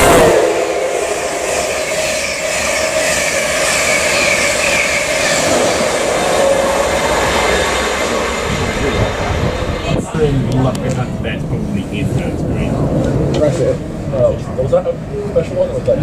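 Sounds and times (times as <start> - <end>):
train wheels rushing on rail: 0.0 - 16.0
wavering whine: 0.0 - 16.0.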